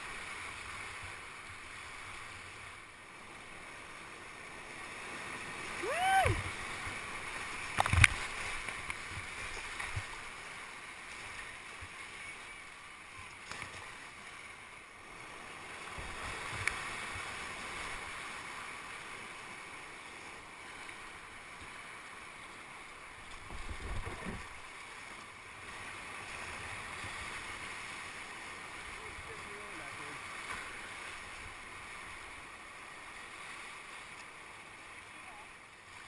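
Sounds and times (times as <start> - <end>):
rushing whitewater: 0.0 - 36.0.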